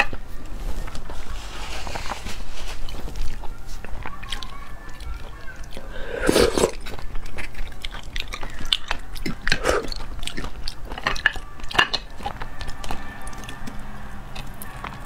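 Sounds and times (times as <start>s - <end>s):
wet chewing and mouth clicks: 2.8s - 15.0s.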